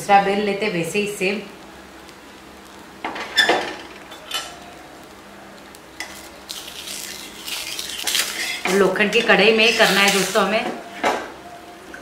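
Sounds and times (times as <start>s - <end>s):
flatbread sizzling: 0.1s - 11.0s.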